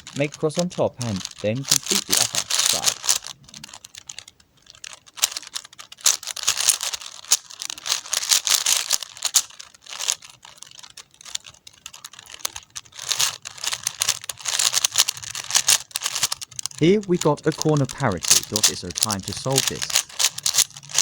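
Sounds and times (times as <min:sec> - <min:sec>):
puzzle cube layers clicking: 0:00.0 - 0:21.0.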